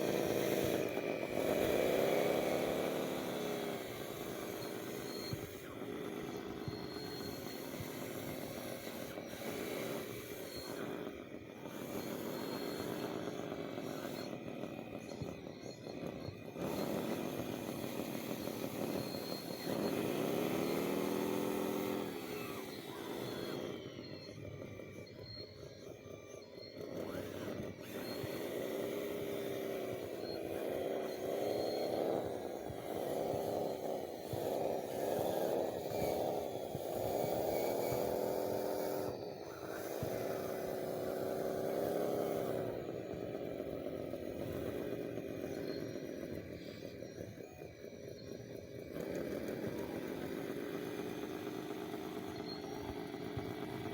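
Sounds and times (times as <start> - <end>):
small electric motors whining: 0.0 - 53.9.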